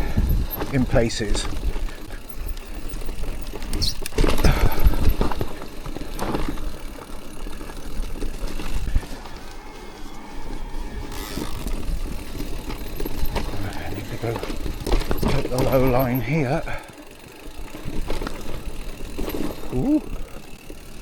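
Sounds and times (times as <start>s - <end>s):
bike rattling and knocking: 0.0s - 9.5s, 11.0s - 21.0s
tyre noise on dirt: 0.0s - 21.0s.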